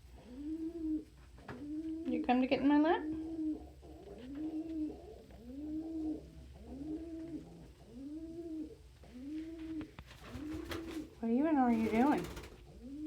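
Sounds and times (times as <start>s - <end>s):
pigeon cooing: 0.0s - 13.0s.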